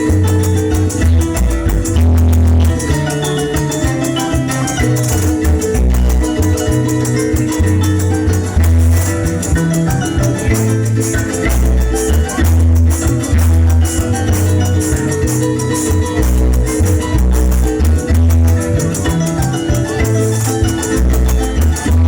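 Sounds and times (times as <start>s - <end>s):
deep bass notes: 0.0s - 22.0s
harp plucked melody: 0.0s - 22.0s
maracas shaking: 0.0s - 22.0s
strummed strings: 0.0s - 22.0s.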